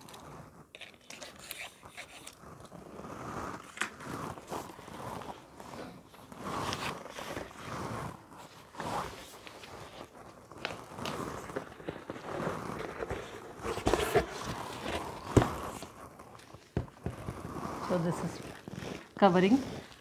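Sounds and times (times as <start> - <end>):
box packaging rustling: 3.6 - 20.0.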